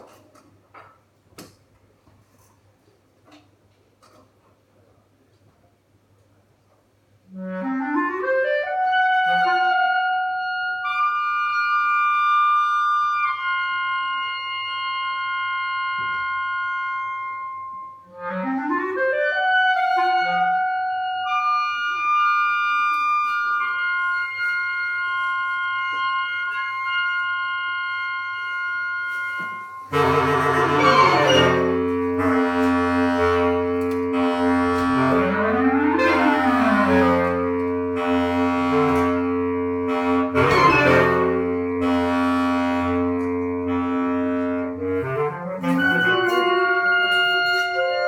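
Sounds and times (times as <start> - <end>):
solo woodwind melody: 7.2 - 48.0.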